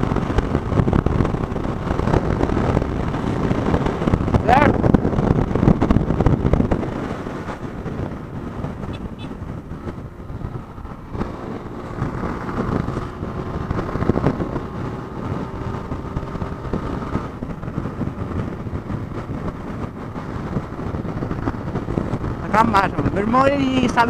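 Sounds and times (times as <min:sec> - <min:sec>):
vehicle engine and road noise: 0:00.0 - 0:24.0
wind rushing over microphone: 0:00.0 - 0:24.0.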